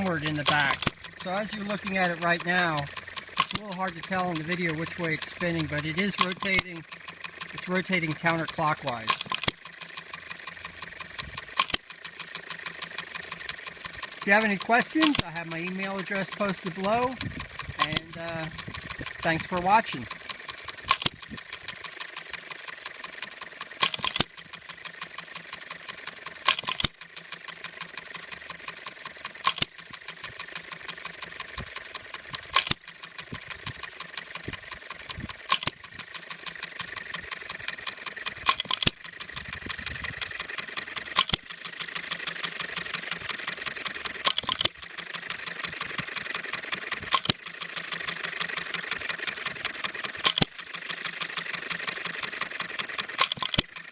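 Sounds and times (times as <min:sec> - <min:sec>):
engine ticking as it coasts: 0:00.0 - 0:53.9.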